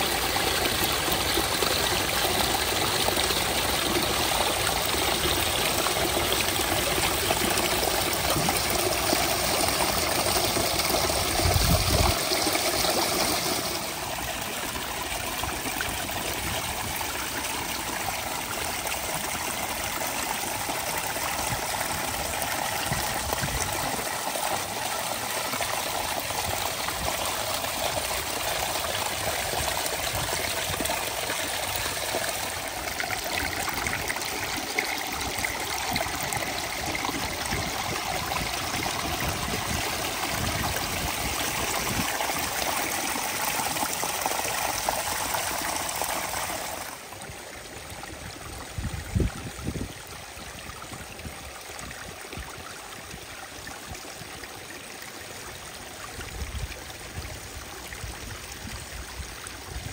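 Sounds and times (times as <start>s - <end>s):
stream water splashing over stones: 0.0s - 59.9s.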